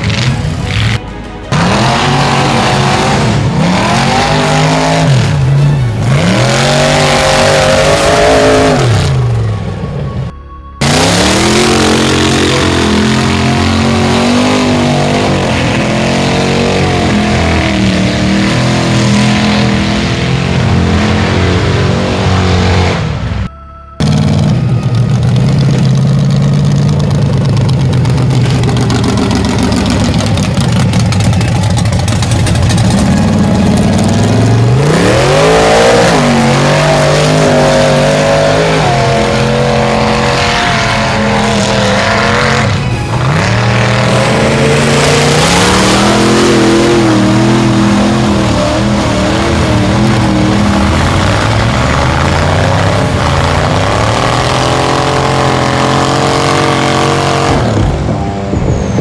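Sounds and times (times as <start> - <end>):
truck engines revving hard: 0.0 - 59.0.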